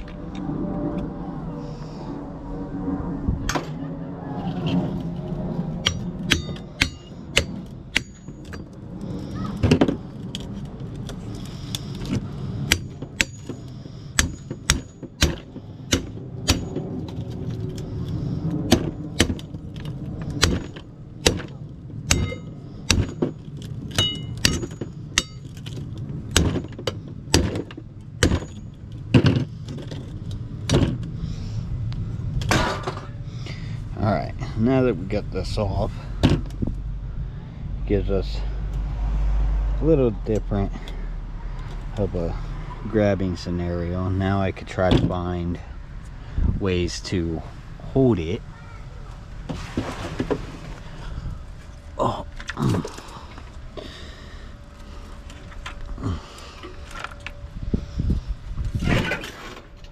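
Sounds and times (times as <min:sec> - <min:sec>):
steady low rumble: 0:00.0 - 0:59.9.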